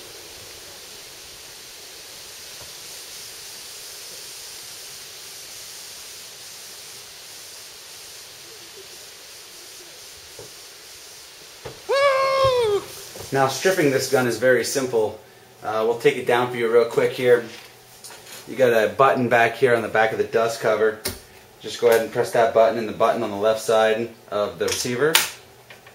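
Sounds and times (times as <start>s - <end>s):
background hiss: 0.0s - 25.9s.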